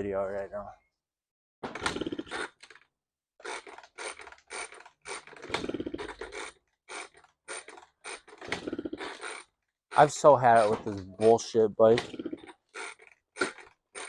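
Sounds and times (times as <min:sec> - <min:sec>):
moped engine cranking: 0:01.7 - 0:02.8, 0:03.4 - 0:14.0.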